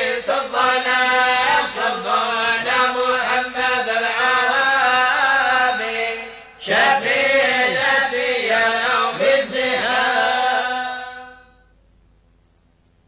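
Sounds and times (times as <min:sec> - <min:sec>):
voices singing devotional chant: 0:00.0 - 0:11.6.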